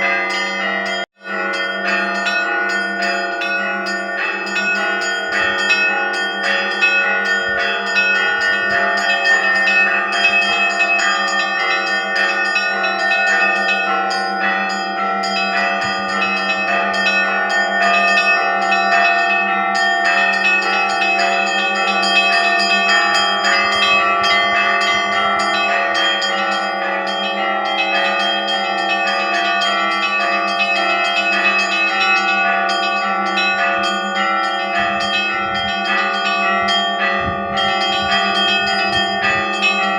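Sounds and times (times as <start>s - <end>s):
church bells pealing: 0.0s - 39.9s
deep steady bell tone: 0.0s - 39.9s.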